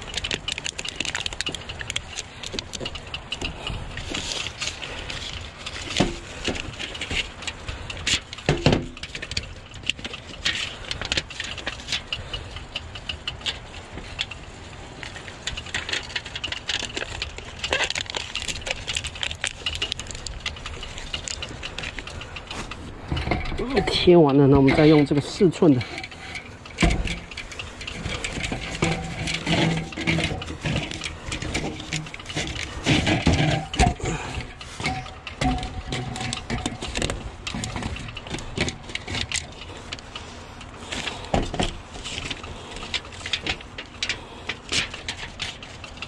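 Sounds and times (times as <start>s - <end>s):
adhesive tape crackling: 0.0s - 46.0s.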